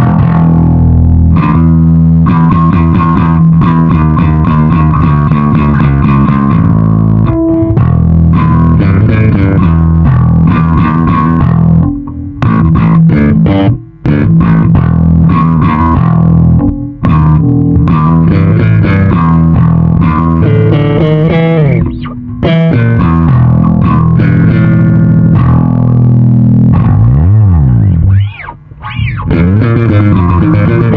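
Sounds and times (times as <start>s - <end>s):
electric bass line: 0.0s - 30.9s.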